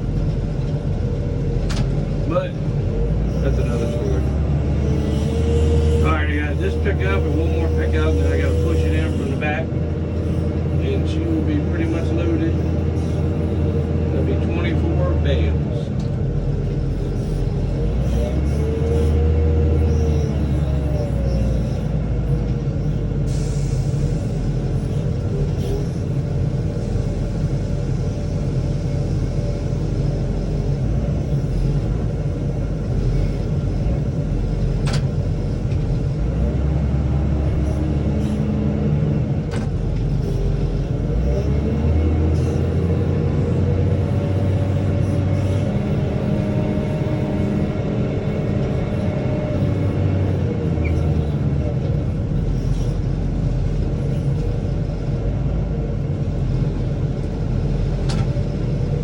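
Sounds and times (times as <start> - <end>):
machinery clanking: 0.0 - 55.2
farm machine engine running: 0.0 - 59.0.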